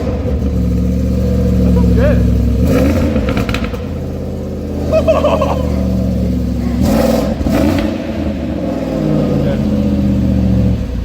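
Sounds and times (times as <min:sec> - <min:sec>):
truck engine idling and revving: 0:00.0 - 0:11.0.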